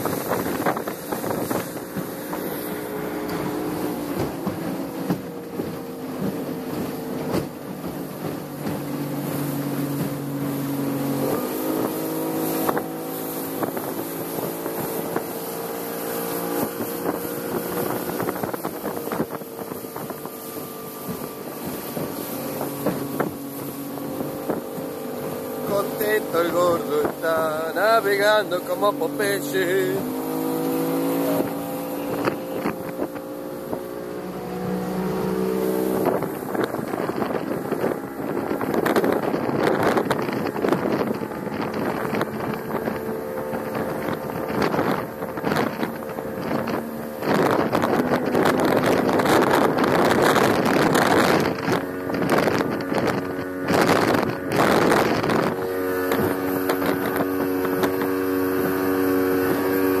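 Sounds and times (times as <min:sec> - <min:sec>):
outboard motor running: 0:00.0 - 1:00.0
wind gusts on microphone: 0:00.0 - 1:00.0.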